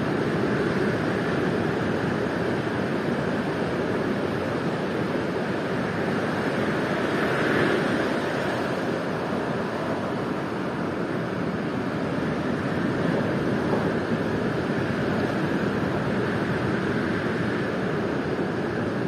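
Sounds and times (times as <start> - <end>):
ocean surf washing: 0.0 - 19.0.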